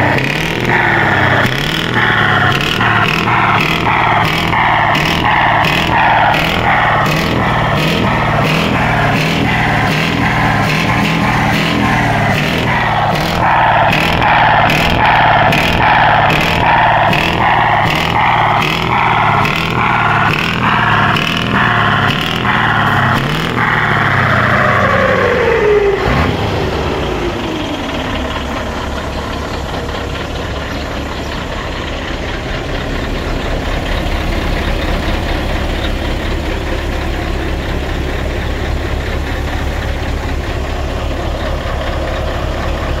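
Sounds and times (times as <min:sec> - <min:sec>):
diesel truck engine revving and idling: 0:00.0 - 0:43.0.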